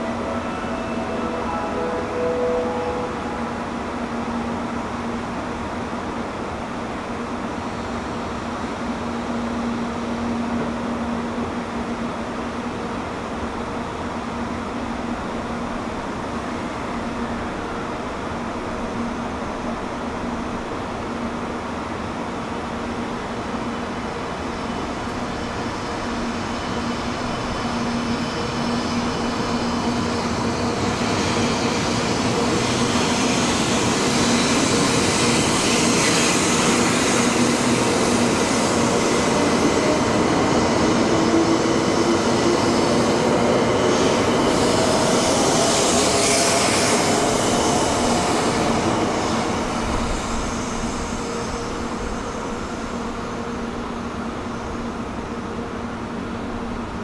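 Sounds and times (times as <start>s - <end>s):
high-speed train traction motor whine: 0.0s - 57.0s
rushing of passing train cars: 0.0s - 57.0s.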